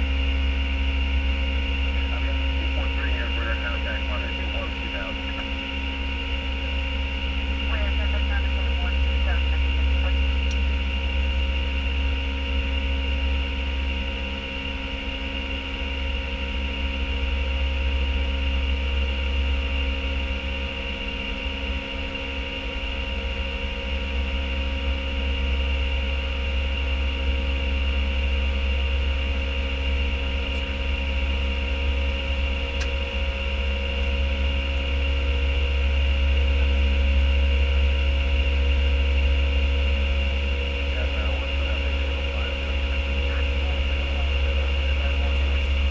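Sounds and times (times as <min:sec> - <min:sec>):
airplane cockpit engine rumble: 0:00.0 - 0:45.9
high whine: 0:00.0 - 0:45.9.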